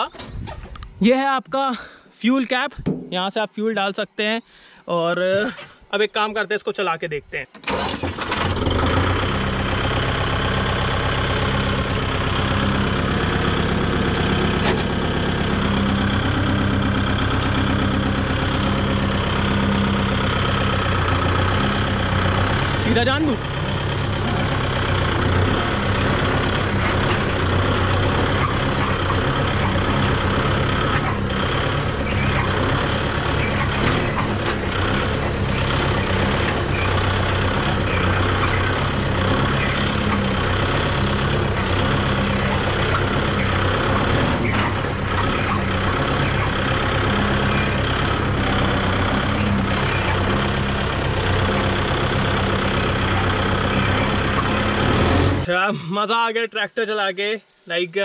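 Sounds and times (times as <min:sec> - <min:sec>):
tractor diesel engine running: 0:07.6 - 0:55.7.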